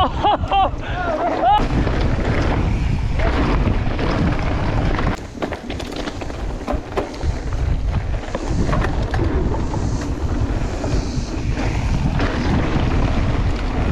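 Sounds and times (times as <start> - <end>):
bike clicks and rattles: 0.0 - 13.9
tyres on dirt and gravel: 0.0 - 13.9
wind buffeting microphone: 0.0 - 13.9.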